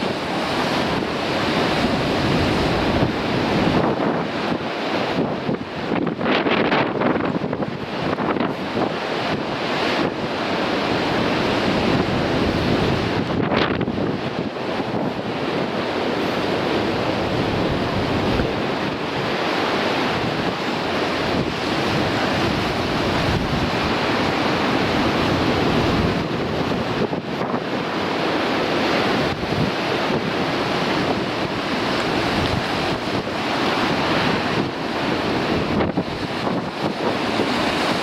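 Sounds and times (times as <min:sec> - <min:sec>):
sea surf breaking on rocks: 0:00.0 - 0:38.0
wind on microphone: 0:00.0 - 0:38.0.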